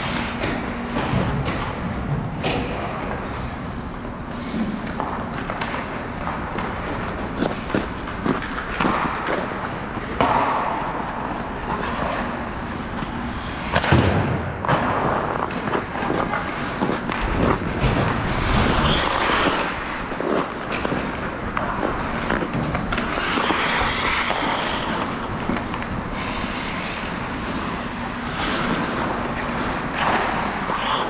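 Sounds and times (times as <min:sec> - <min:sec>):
continuous scraping rush: 0:00.0 - 0:14.1, 0:14.9 - 0:31.0.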